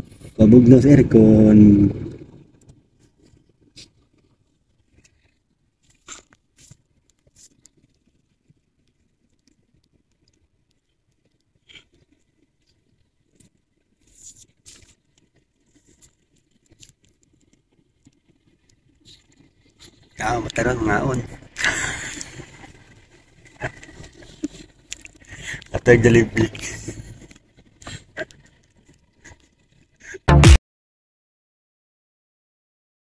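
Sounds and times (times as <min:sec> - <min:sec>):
small clicks and crackles: 0:00.0 - 0:01.2, 0:01.9 - 0:30.2.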